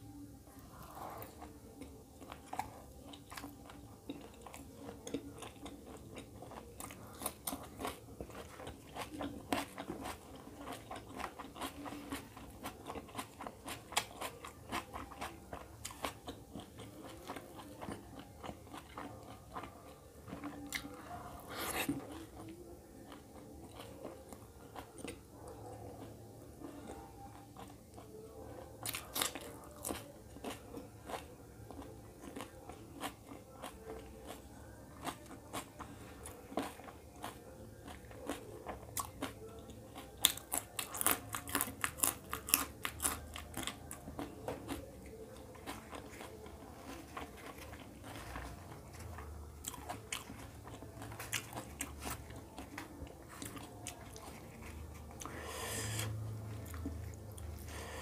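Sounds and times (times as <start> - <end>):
man chewing food: 0.0 - 58.0.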